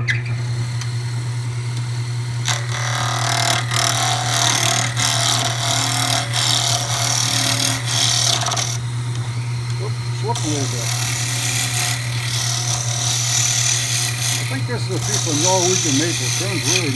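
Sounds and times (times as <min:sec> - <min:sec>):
wood lathe motor humming: 0:00.4 - 0:16.9
chisel scraping spinning wood: 0:02.4 - 0:16.9.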